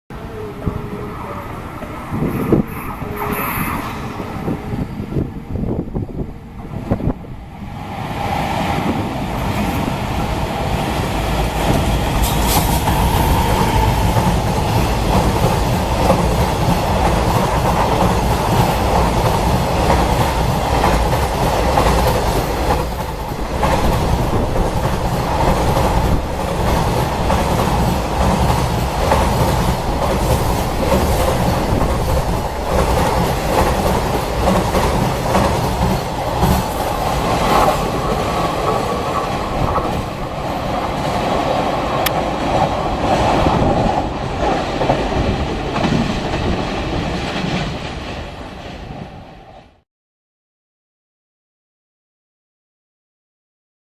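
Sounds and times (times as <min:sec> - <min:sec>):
train wheels rumbling on rails: 0:00.1 - 0:49.8.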